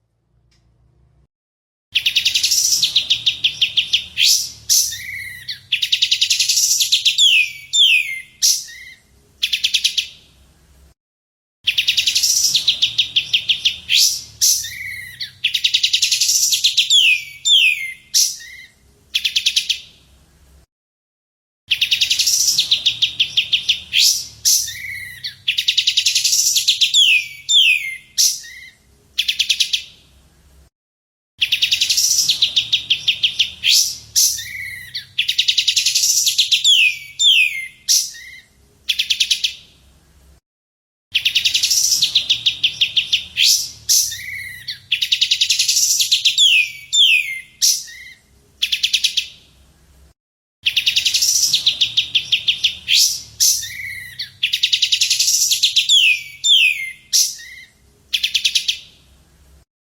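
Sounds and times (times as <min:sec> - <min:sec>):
songbird singing trills and whistles: 0:02.0 - 0:10.2, 0:11.7 - 0:20.0, 0:21.7 - 0:30.0, 0:31.4 - 0:39.7, 0:41.1 - 0:49.4, 0:50.6 - 0:59.0.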